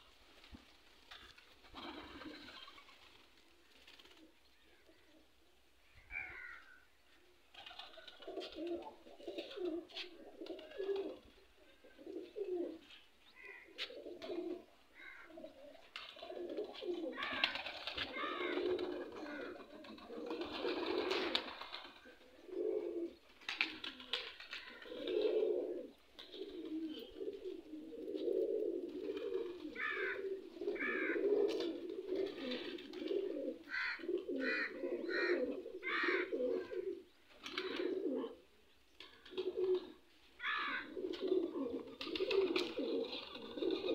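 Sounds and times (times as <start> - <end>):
pigeons cooing: 1.1 - 3.0, 7.6 - 43.9.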